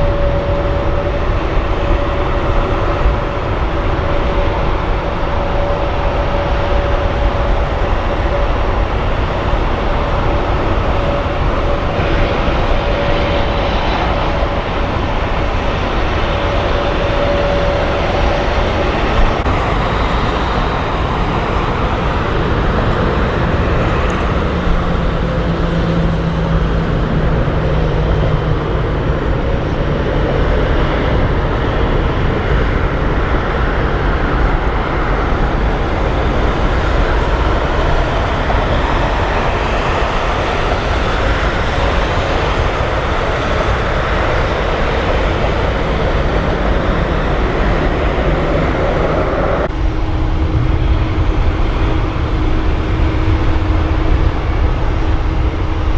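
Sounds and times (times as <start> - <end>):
jet airliner engines running: 0.0 - 55.9.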